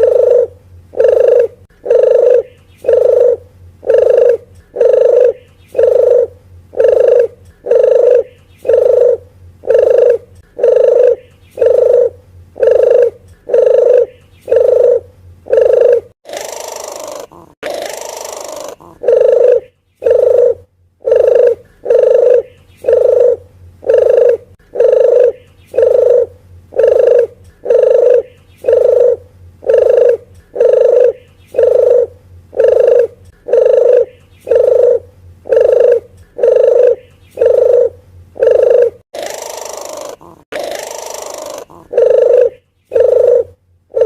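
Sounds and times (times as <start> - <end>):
dove cooing: 0.0 - 44.0.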